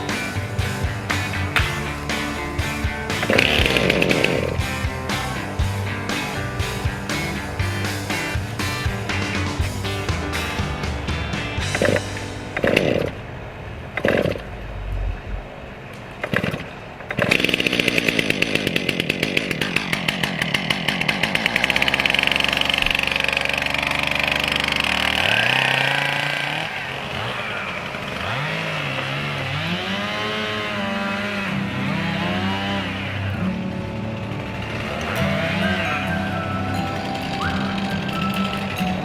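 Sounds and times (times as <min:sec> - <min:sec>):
chainsaw running: 0:00.0 - 0:13.2, 0:16.2 - 0:39.0.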